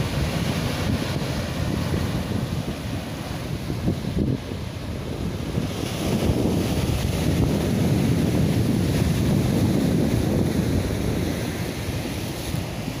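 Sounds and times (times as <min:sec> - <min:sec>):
sea surf washing ashore: 0:00.0 - 0:13.0
wind buffeting microphone: 0:00.0 - 0:13.0.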